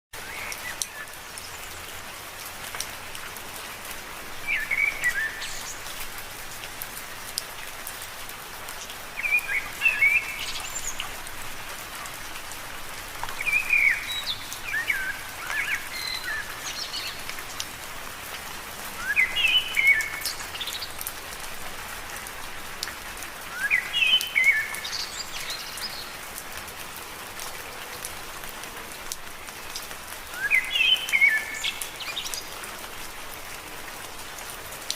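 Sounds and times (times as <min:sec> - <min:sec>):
rain falling on leaves: 0:00.1 - 0:34.9.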